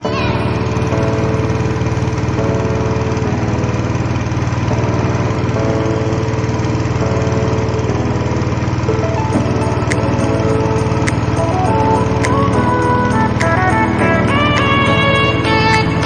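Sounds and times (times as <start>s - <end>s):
tune of held notes: 0.0s - 16.0s
small engine chugging: 0.1s - 16.0s.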